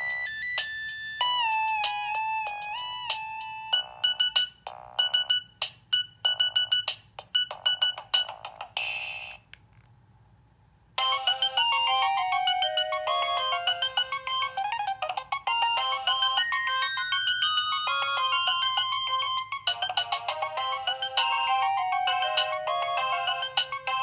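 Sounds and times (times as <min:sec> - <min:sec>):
phone ringtone melody: 0:00.0 - 0:09.3, 0:11.0 - 0:24.0.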